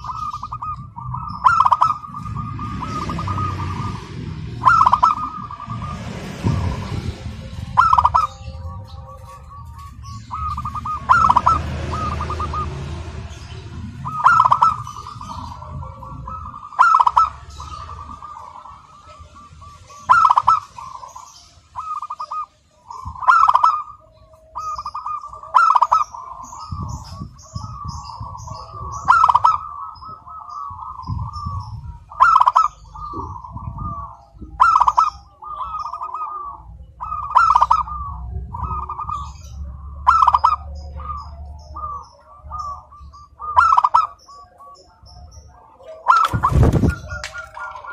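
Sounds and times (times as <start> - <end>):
dove cooing song: 0.0 - 47.9.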